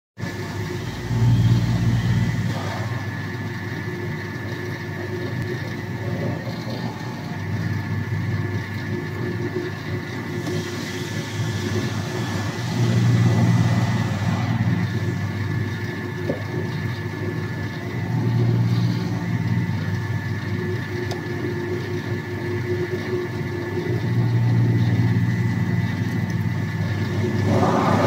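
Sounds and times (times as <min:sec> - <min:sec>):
machine motor and rollers humming: 0:00.2 - 0:28.0.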